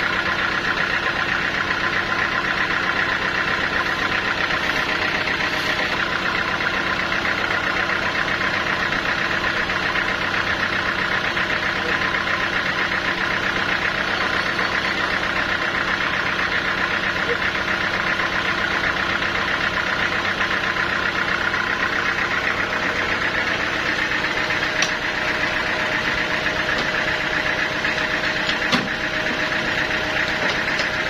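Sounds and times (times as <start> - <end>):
sawmill machinery humming: 0.0 - 31.0.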